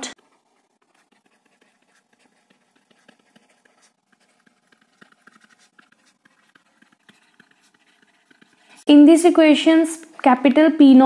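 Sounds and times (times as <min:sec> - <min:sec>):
stylus tapping and scratching: 0:00.0 - 0:09.0.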